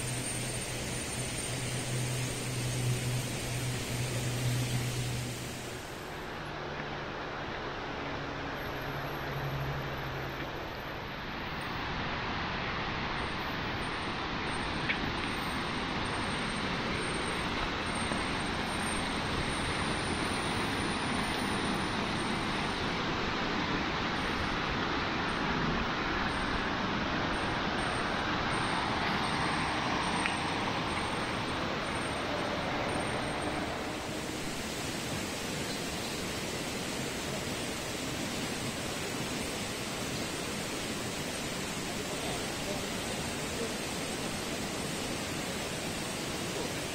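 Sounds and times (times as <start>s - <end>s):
stream rushing: 0.0s - 46.9s.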